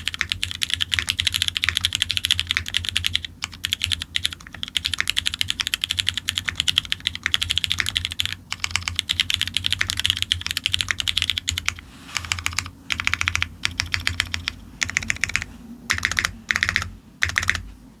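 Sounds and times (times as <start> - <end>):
mechanical keyboard typing: 0.0 - 17.7.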